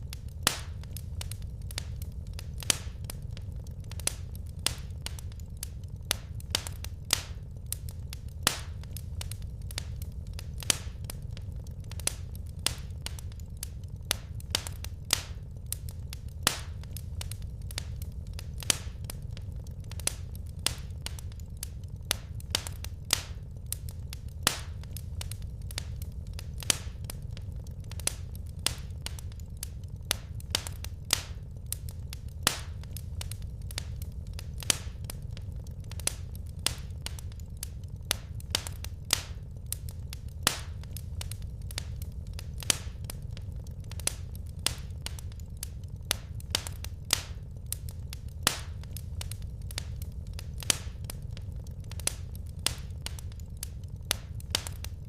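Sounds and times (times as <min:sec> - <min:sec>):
low rumble of flames: 0:00.0 - 0:55.0
wood fire crackling and popping: 0:00.0 - 0:55.0.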